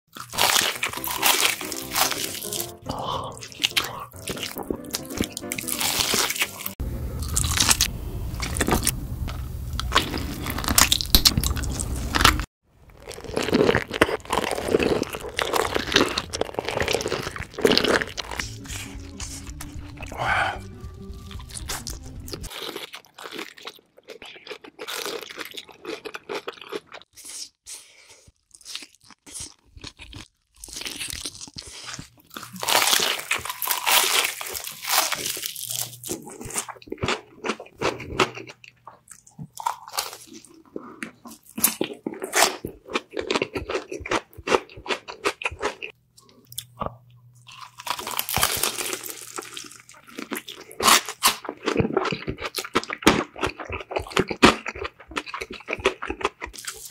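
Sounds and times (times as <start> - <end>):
chewing and crunching chicken: 0.1 - 8.9, 9.8 - 56.9.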